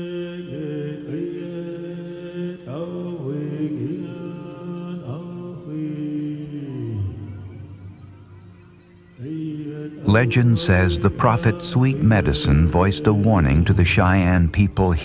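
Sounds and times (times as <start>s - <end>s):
voices chanting long notes: 0.0s - 15.0s.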